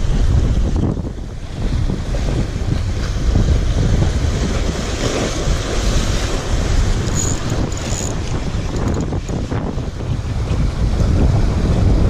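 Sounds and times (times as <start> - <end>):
sea waves against concrete blocks: 0.0 - 12.0
wind noise on microphone: 0.0 - 12.0.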